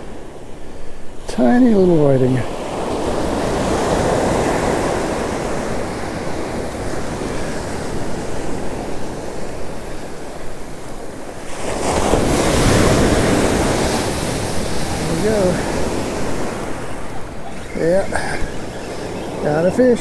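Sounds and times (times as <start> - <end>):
ocean surf breaking: 0.0 - 20.0
wind rumbling on microphone: 2.1 - 20.0.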